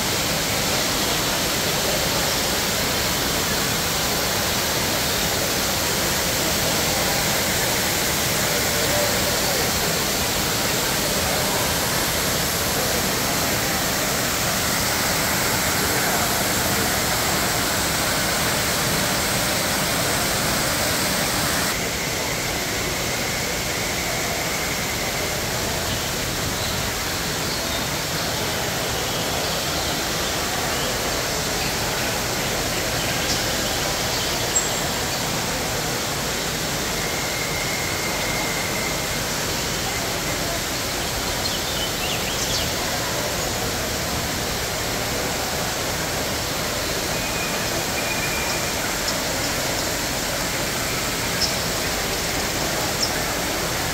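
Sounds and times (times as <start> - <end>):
rushing falling water: 0.0 - 53.9.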